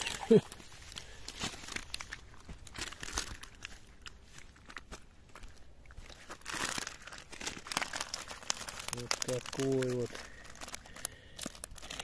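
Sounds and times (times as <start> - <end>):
plastic bag crinkling: 0.0 - 4.0, 4.6 - 12.0.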